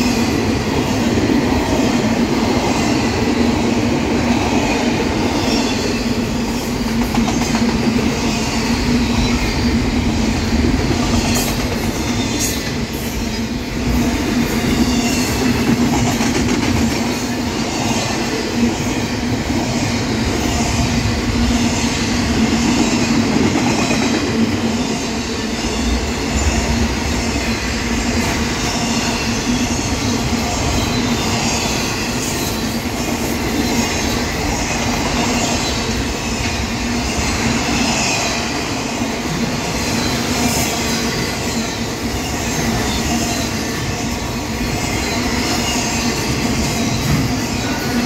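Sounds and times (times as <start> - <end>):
train wheels rushing on rails: 0.0 - 48.0.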